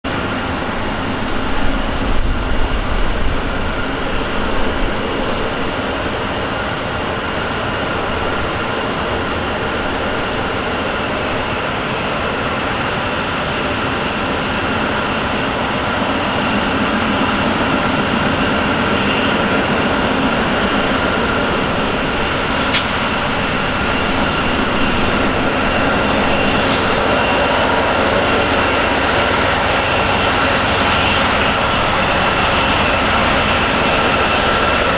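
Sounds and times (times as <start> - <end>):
locomotive engine and rail rumble: 0.0 - 34.9.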